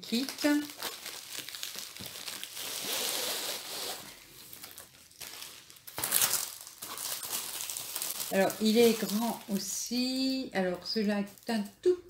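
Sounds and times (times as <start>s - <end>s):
plastic wrapping rustling: 0.0s - 11.8s.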